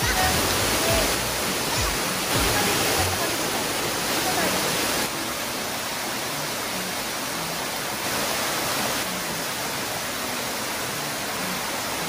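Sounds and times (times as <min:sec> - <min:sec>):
waterfall roaring onto rocks: 0:00.0 - 0:12.0.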